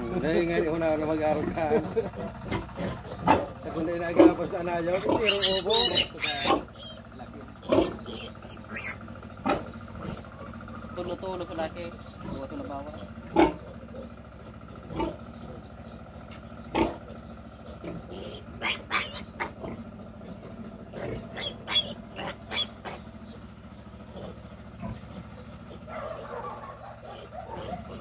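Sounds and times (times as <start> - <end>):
piglet squealing and grunting: 2.2 - 10.5, 12.2 - 15.7, 16.7 - 23.4, 24.0 - 28.0.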